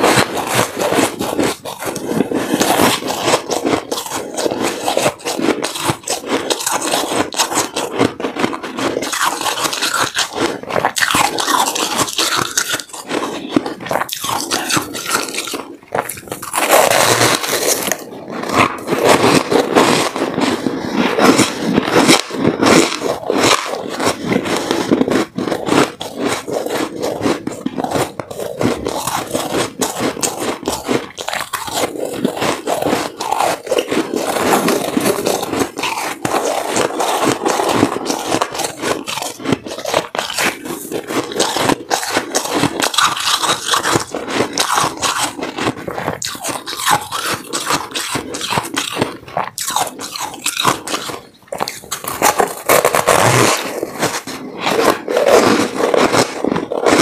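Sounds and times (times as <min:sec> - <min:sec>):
chewing crunchy ice: 0:00.0 - 0:57.0.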